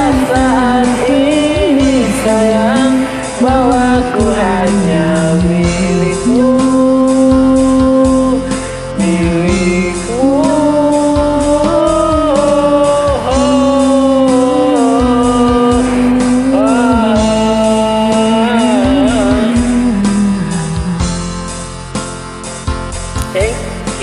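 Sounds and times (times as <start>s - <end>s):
karaoke backing track with beat: 0.0s - 24.0s
person singing karaoke: 0.0s - 24.0s.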